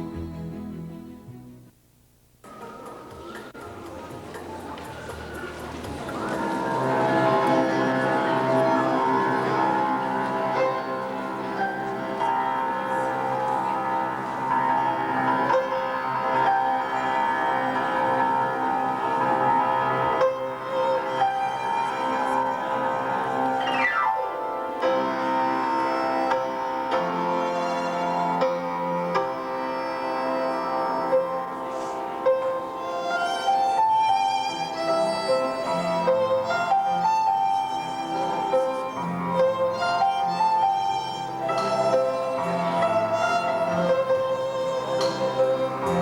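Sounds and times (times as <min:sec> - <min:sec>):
slow instrumental melody: 0:00.0 - 0:46.0.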